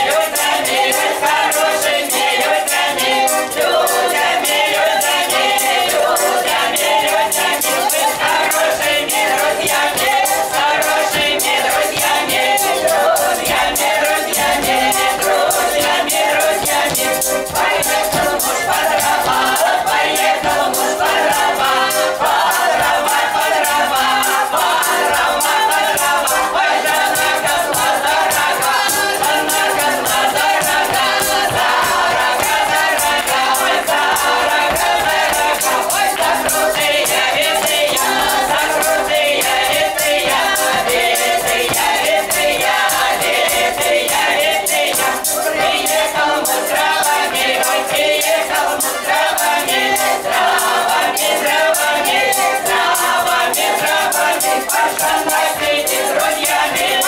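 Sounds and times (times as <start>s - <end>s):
steady rhythmic beat: 0.0s - 57.0s
women's choir singing: 0.0s - 57.0s.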